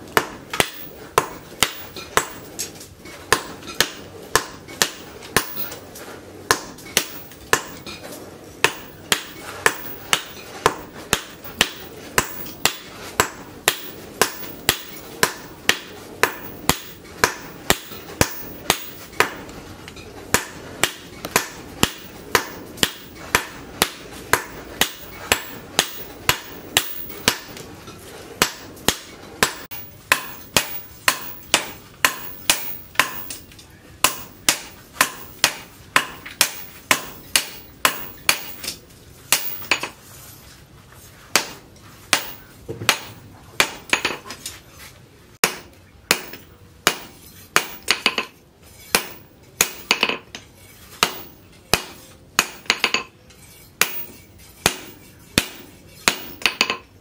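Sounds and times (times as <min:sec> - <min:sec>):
hammer striking metal on anvil: 0:00.1 - 0:02.5, 0:03.3 - 0:05.8, 0:06.5 - 0:08.0, 0:08.6 - 0:19.5, 0:20.3 - 0:27.6, 0:28.4 - 0:40.0, 0:41.3 - 0:44.2, 0:45.4 - 0:56.9.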